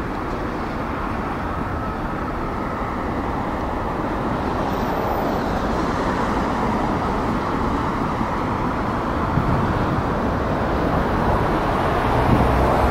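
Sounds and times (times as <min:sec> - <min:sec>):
tyre noise on wet street: 0:00.0 - 0:12.9
vehicle engines rumbling: 0:00.0 - 0:12.9.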